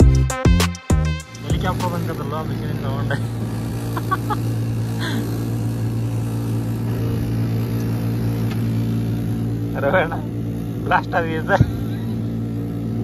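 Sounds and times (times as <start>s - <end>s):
car engine idling: 1.2s - 13.0s.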